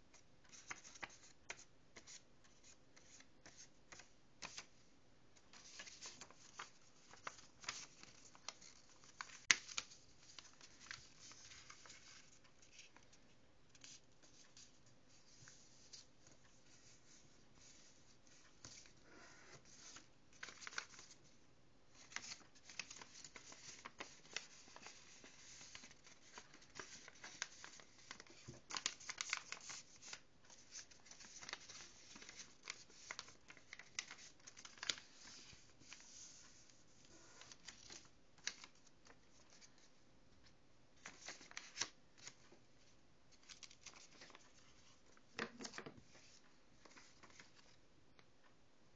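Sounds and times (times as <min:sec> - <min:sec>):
low background hiss: 0:00.0 - 0:48.9
paper rustling and crinkling: 0:05.4 - 0:19.0, 0:19.6 - 0:21.3, 0:21.9 - 0:40.0, 0:41.0 - 0:47.8.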